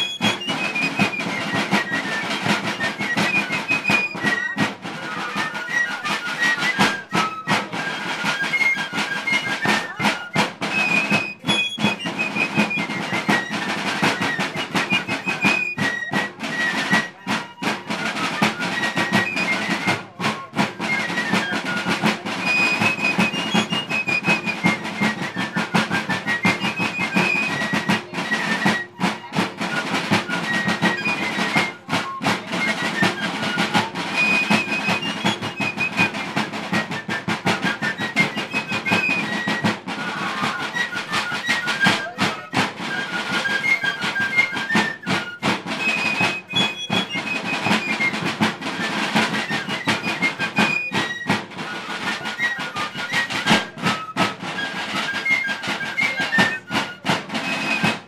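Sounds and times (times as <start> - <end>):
fifes playing shrill melody: 0.0 - 48.6
snare drumming: 0.0 - 58.0.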